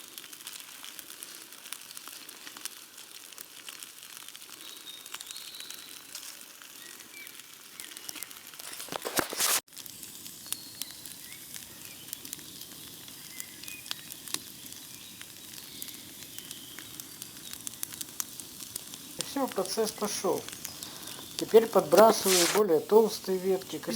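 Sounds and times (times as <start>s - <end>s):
campfire crackling and hissing: 0.0s - 23.9s.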